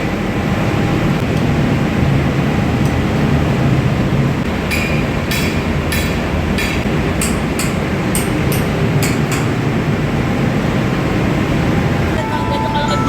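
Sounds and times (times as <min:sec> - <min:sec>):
engine room machinery running: 0:00.0 - 0:13.0.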